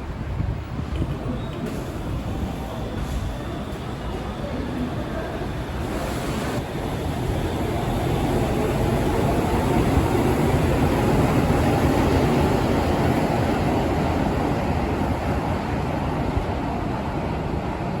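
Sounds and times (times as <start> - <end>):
monorail train running past: 0.0 - 18.0.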